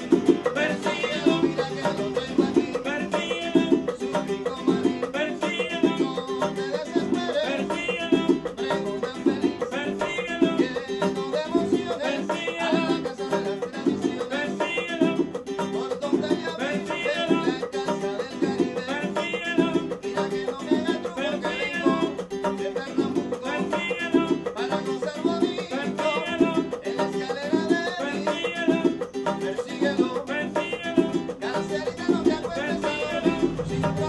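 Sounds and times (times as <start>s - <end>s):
acoustic guitar plucking: 0.0s - 34.0s.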